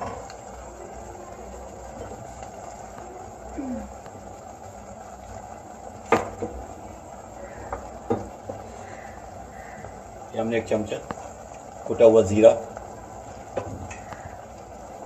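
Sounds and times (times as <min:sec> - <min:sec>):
pot hissing on gas burner: 0:00.0 - 0:15.0.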